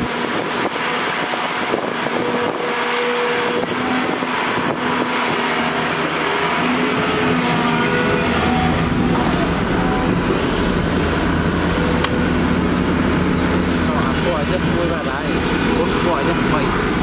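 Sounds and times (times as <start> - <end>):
excavator diesel engine: 0.0 - 17.0
hydraulic whine: 0.0 - 17.0.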